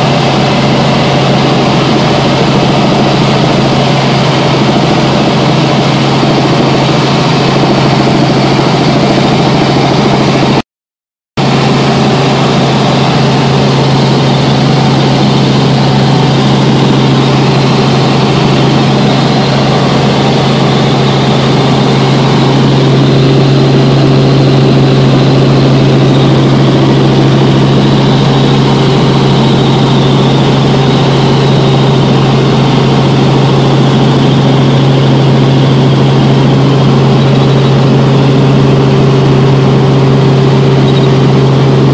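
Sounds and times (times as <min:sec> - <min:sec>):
helicopter engine and rotor drone: 0:00.0 - 0:10.6, 0:11.4 - 0:41.9.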